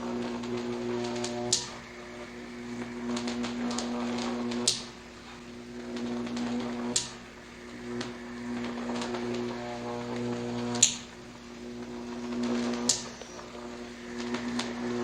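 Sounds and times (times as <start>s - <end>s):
pitched mechanical hum: 0.0s - 15.0s.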